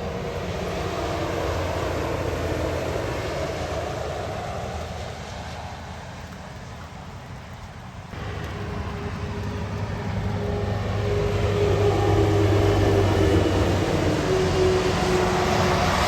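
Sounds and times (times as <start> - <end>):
heavy truck diesel engine: 0.0 - 6.0, 8.1 - 16.0.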